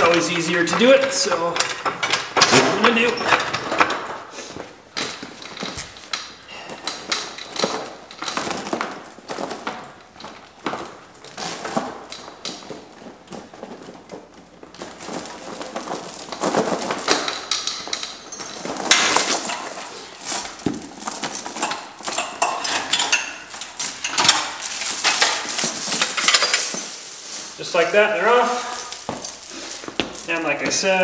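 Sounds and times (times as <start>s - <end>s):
snow chains clinking and jangling: 0.0s - 4.4s, 5.0s - 31.0s.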